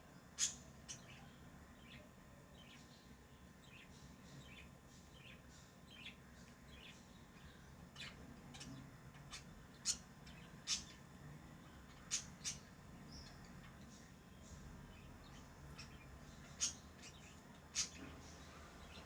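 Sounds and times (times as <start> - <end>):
lovebirds chirping: 0.4 - 19.0.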